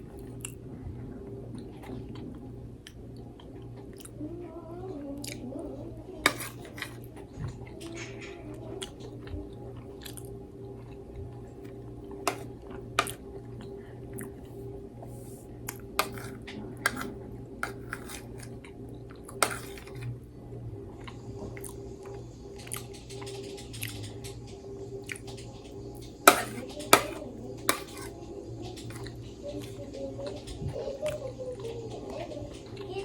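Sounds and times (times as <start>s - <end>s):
person chewing food: 0.0s - 4.2s, 5.1s - 5.5s, 6.2s - 31.2s
steady low hum: 0.0s - 33.0s.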